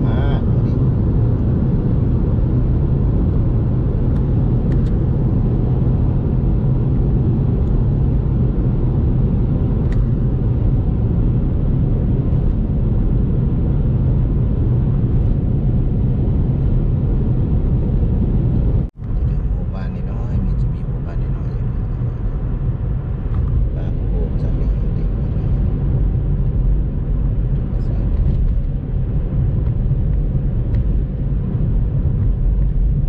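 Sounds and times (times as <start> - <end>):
car driving low rumble: 0.0 - 33.0.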